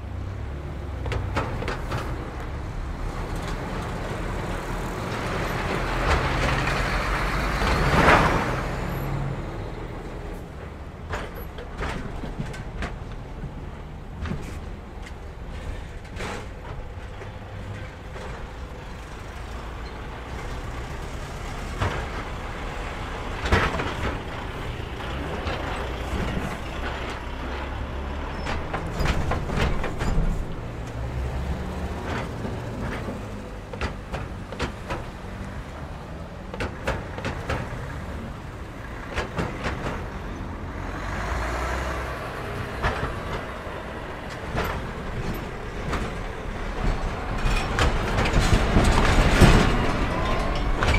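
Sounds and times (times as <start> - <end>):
diesel engines rumbling: 0.0 - 50.9
wheels clattering over rails: 0.1 - 50.9.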